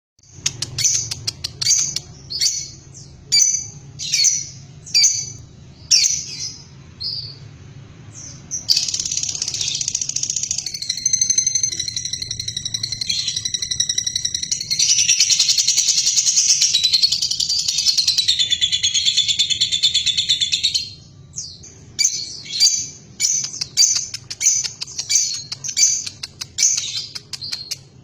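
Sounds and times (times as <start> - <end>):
lovebird chirping and chattering: 0.2 - 7.4, 8.1 - 28.0.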